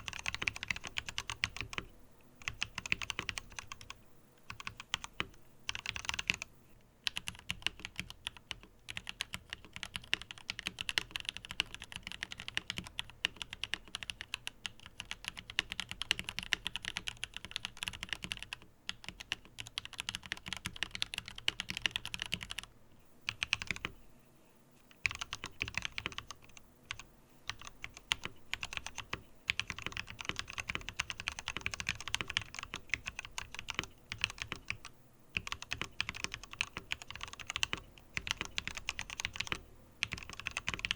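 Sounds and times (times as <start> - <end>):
mechanical keyboard typing: 0.0 - 22.7, 23.3 - 23.9, 25.0 - 40.9.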